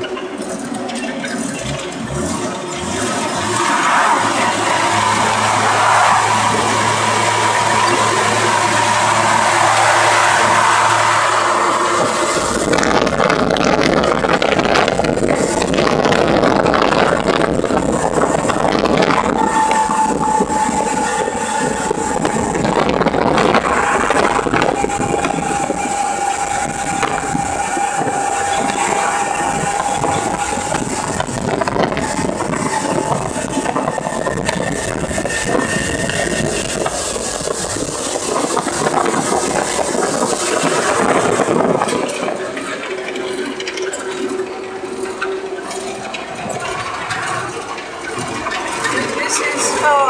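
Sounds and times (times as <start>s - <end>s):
cab rattles: 0.0s - 50.0s
road noise: 0.0s - 50.0s
steady whine: 0.0s - 50.0s
truck engine running under load: 0.0s - 50.0s.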